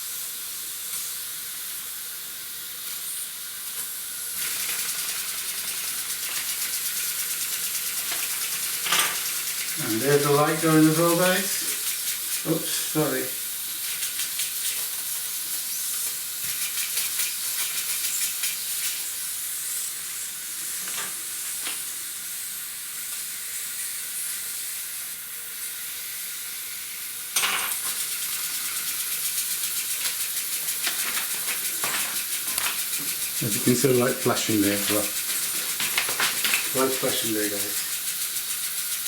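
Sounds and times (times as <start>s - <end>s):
model steam engine hissing: 0.0s - 39.0s.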